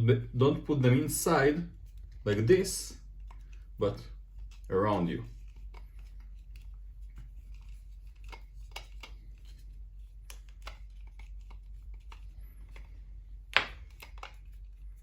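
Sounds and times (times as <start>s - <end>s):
low steady hum: 0.0s - 15.0s
plastic parts clicking and rubbing: 1.7s - 15.0s.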